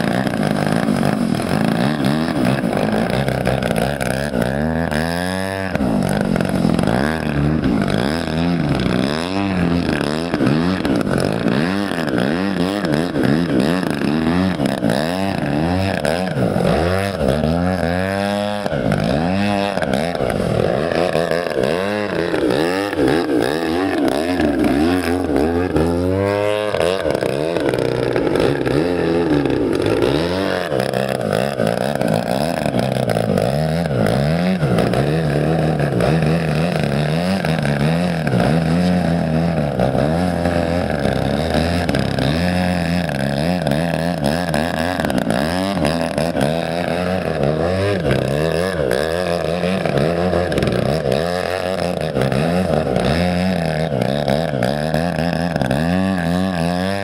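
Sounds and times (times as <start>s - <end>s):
model plane engine: 0.0s - 57.0s.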